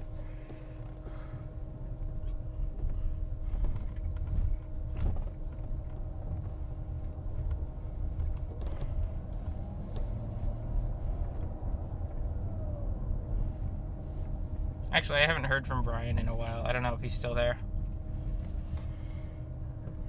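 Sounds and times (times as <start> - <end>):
faint steady hum: 0.0 - 20.0
road and tyre rumble in car cabin: 0.0 - 20.0.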